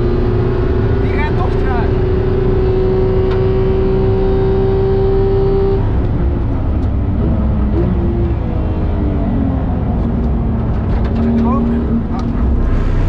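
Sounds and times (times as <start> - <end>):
car engine at high pitch: 0.0 - 13.0.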